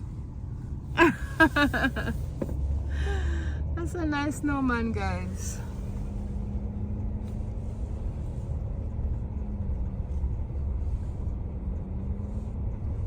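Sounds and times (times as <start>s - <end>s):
car engine hum: 0.0s - 13.0s
road noise inside car: 0.0s - 13.0s.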